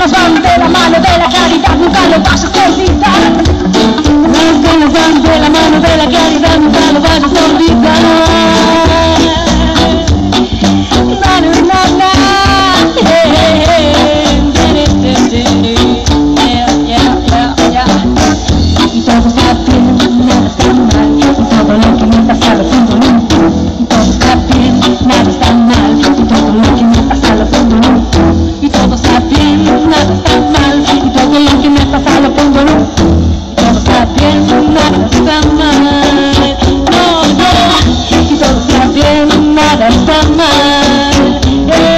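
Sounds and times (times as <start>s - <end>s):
bass line: 0.0s - 41.9s
reggae band playing: 0.0s - 41.9s.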